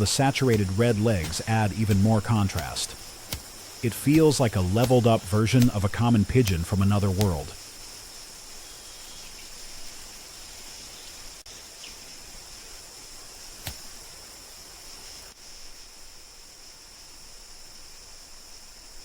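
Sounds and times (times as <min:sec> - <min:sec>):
high insect chorus: 0:00.0 - 0:19.0.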